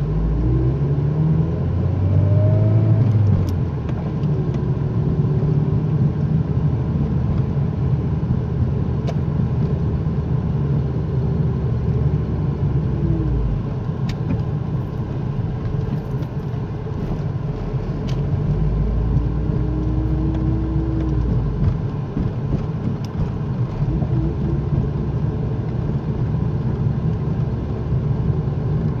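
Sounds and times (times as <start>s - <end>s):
car interior road and engine noise: 0.0s - 29.0s.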